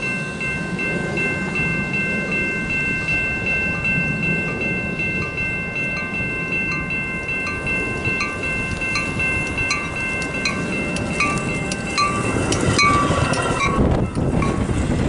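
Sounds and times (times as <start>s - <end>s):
crossing warning bell ringing: 0.0s - 15.0s
diesel train rumble: 0.0s - 15.0s
sharp clicks of train wheels: 0.0s - 15.0s.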